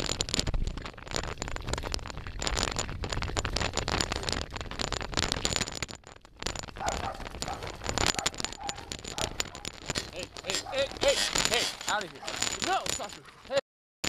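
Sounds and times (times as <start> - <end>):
bicycle tyre rattle on rough road: 0.0 - 13.6.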